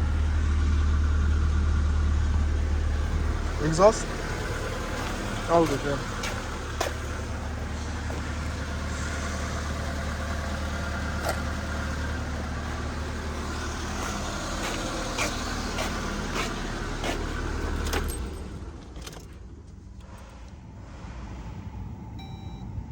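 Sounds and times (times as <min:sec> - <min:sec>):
van engine idling: 0:00.0 - 0:22.9.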